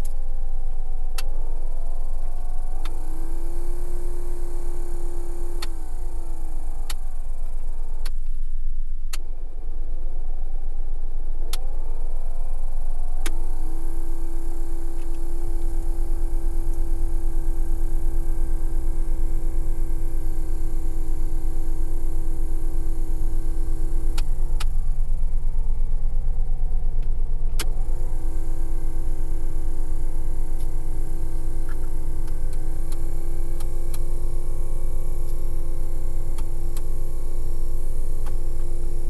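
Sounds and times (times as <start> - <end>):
blower fan motor whirring: 0.0 - 8.6, 9.2 - 39.0
engine idling: 0.0 - 39.0.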